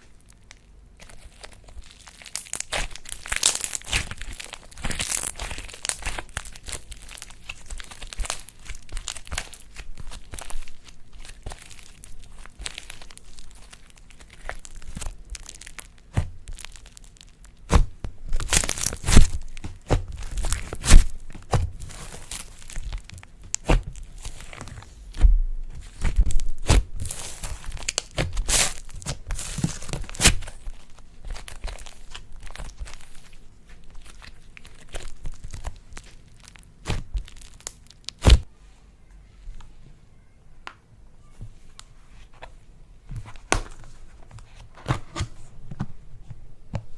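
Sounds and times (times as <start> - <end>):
slime being worked by hand: 0.0 - 38.5.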